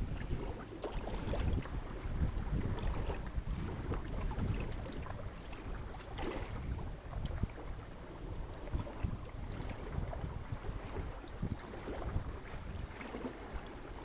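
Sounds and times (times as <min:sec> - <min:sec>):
choppy river water splashing: 0:00.0 - 0:14.0
wind rumbling on microphone: 0:00.0 - 0:14.0.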